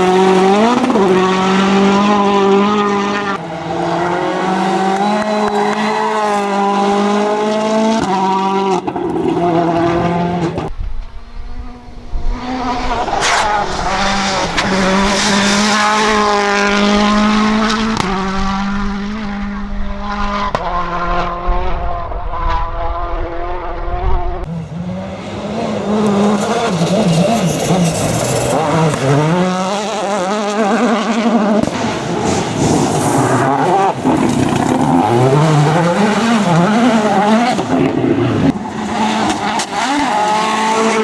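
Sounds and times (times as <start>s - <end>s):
rally car engine revving hard: 0.0s - 41.0s.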